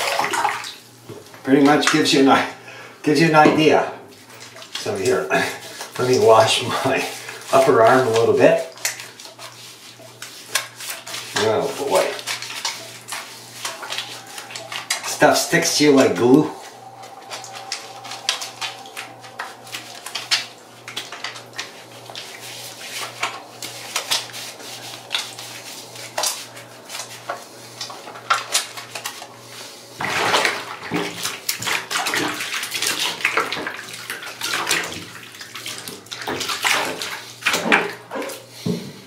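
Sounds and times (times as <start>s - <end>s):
water splashing in a bathtub: 0.0s - 39.0s.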